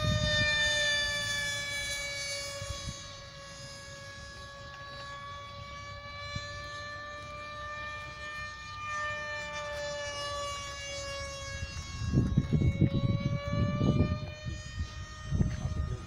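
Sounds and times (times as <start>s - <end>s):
model plane motor whine: 0.0s - 16.0s.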